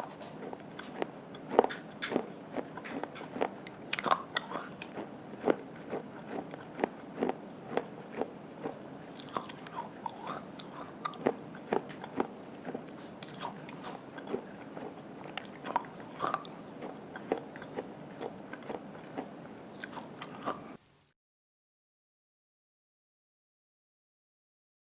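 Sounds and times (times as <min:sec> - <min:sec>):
crunchy chewing of dry clay: 0:00.0 - 0:21.1.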